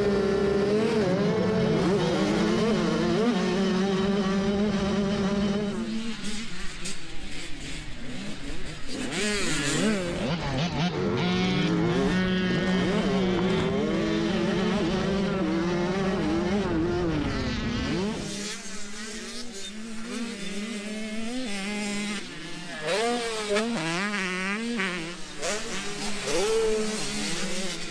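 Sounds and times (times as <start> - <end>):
dirt bike engines revving: 0.0 - 27.9.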